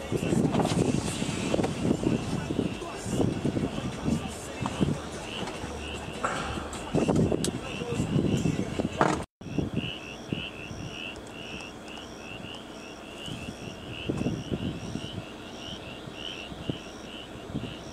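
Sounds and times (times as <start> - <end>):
night insects chirping: 0.0 - 17.9.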